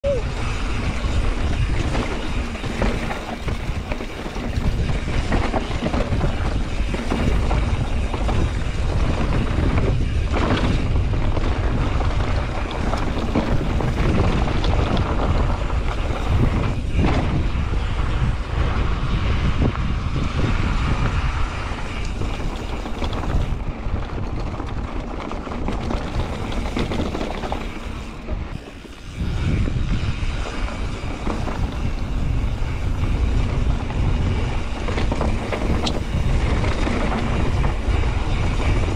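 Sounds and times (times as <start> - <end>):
mountain bike tyre and frame rattle: 0.0 - 38.9
wind buffeting microphone: 0.0 - 38.9.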